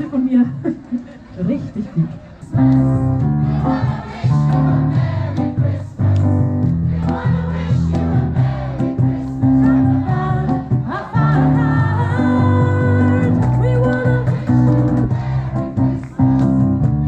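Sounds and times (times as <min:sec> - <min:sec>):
amplified guitar and bass music: 0:02.5 - 0:17.0
crowd singing a carol: 0:02.8 - 0:17.0.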